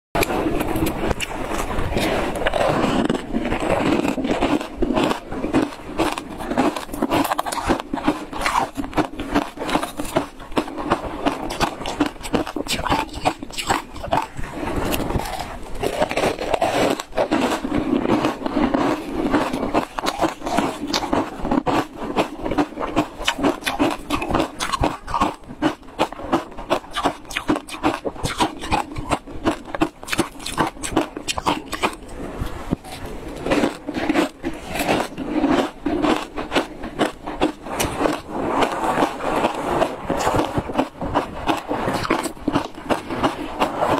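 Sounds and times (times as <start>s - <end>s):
ice crunching between teeth: 0.2s - 43.9s.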